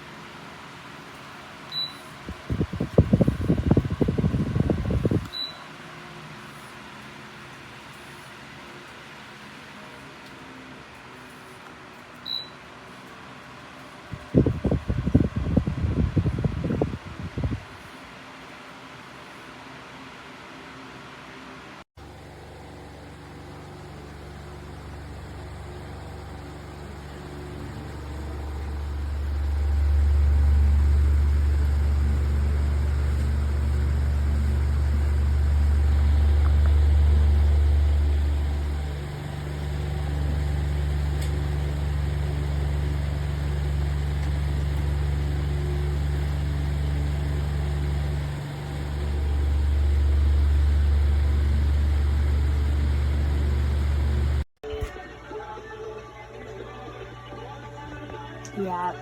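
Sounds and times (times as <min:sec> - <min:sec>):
electric fan airflow rumbling: 0:00.0 - 0:59.0.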